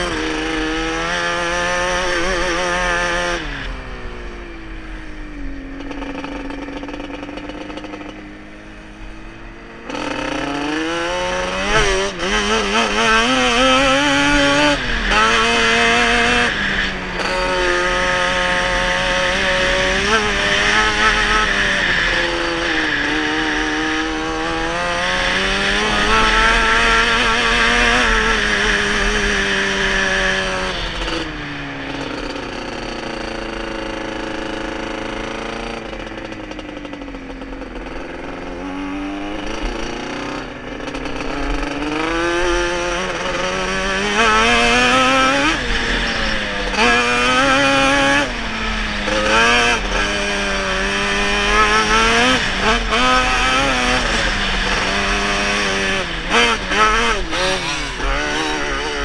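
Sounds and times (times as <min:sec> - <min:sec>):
off-road vehicle engine revving: 0:00.0 - 0:59.0.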